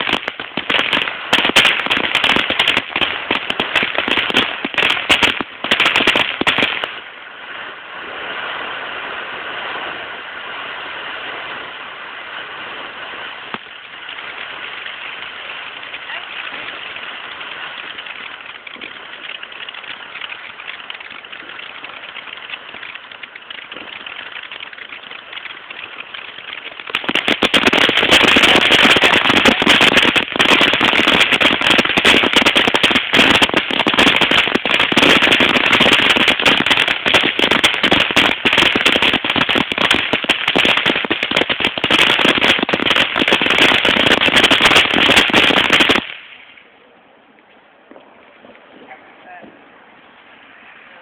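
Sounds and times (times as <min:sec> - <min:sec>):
firecrackers rapid popping: 0:00.0 - 0:46.8, 0:47.8 - 0:51.0
steady hiss: 0:00.0 - 0:51.0.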